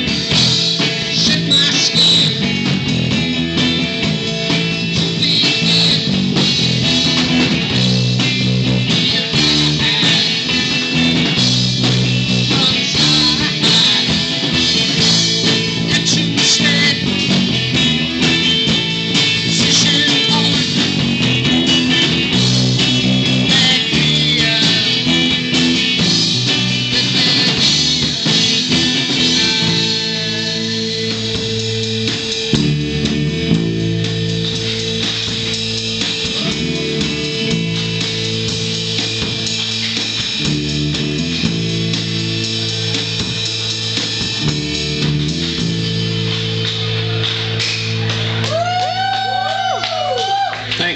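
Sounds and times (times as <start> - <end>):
drum kit: 0.0 - 50.9
electric guitars: 0.0 - 50.9.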